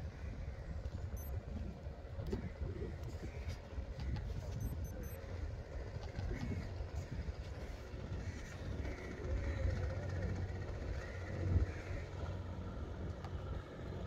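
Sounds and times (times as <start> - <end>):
boat diesel engine rumble: 0.0 - 14.0.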